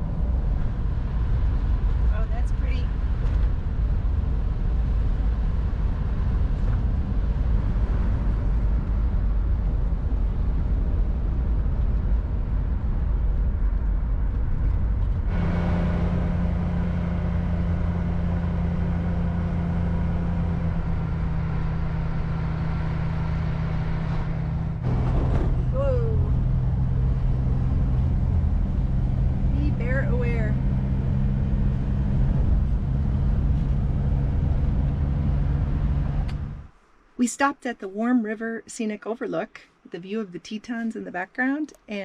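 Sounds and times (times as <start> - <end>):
van engine running: 0.0 - 36.8
road noise: 0.0 - 42.0.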